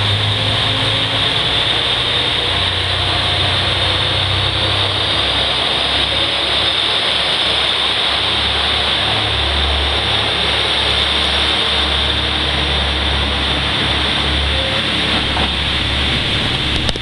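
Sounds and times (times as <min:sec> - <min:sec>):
diesel train running past: 0:00.0 - 0:17.0.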